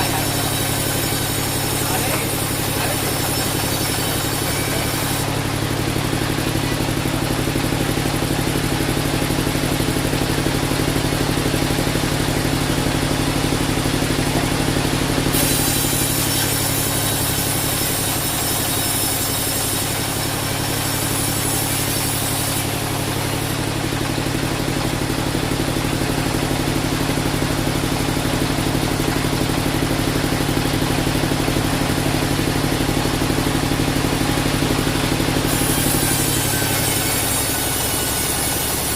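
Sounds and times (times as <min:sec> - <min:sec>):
band sawmill hum: 0:00.0 - 0:38.9.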